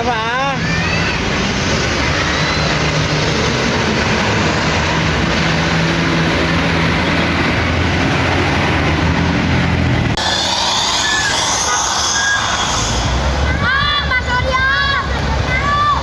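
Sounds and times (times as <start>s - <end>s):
heavy vehicle engine hum: 0.0s - 16.0s.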